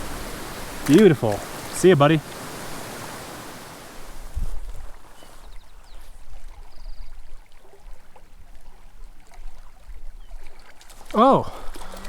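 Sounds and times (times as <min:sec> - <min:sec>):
creek flowing water: 0:00.0 - 0:12.0.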